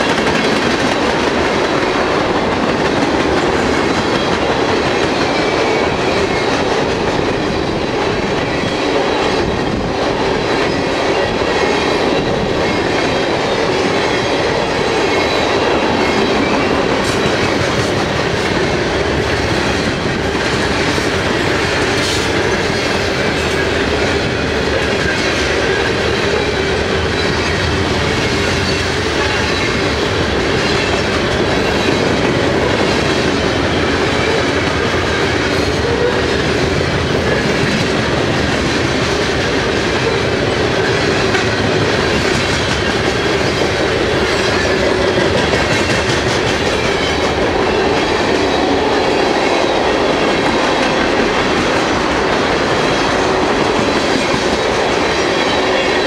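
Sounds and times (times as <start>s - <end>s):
freight train rumbling past: 0.0s - 56.0s
steel wheels clacking on rails: 0.0s - 56.0s.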